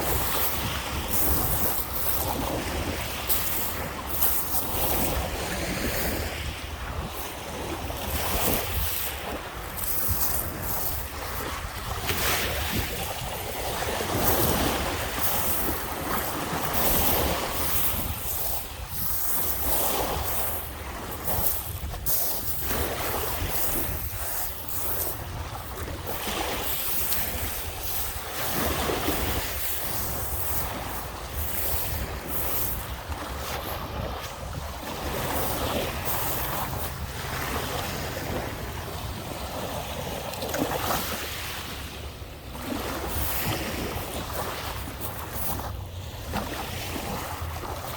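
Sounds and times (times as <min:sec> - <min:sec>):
wind buffeting microphone: 0:00.0 - 0:40.9
waves washing onto sandy shore: 0:00.0 - 0:47.9.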